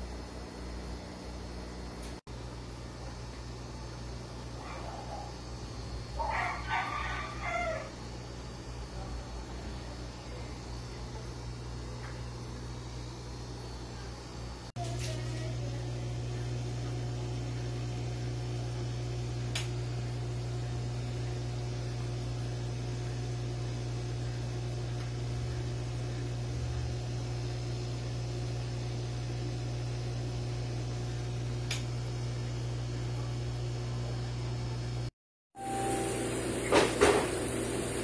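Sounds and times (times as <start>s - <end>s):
low mechanical hum with hiss: 0.0s - 38.0s.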